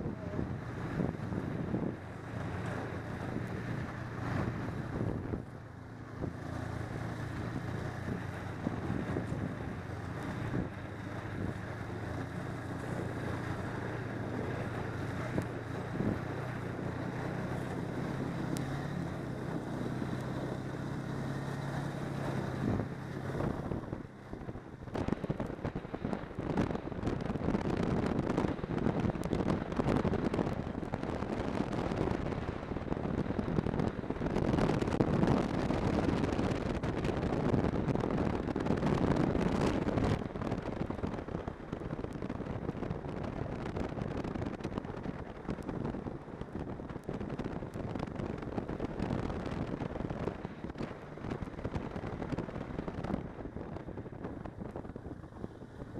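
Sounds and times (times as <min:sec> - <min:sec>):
snowmobile engine running: 0:00.0 - 0:55.9
wind buffeting microphone: 0:00.0 - 0:55.9.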